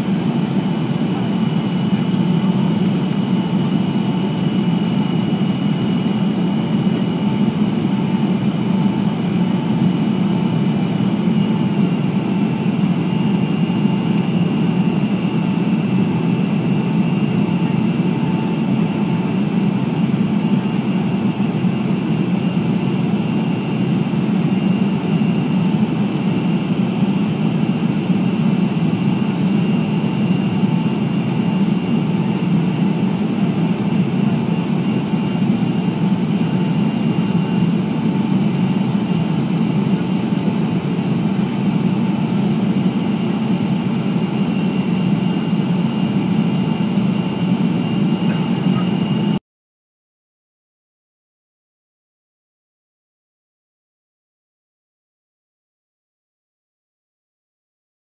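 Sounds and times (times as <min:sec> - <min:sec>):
airplane cabin roar: 0:00.0 - 0:49.4.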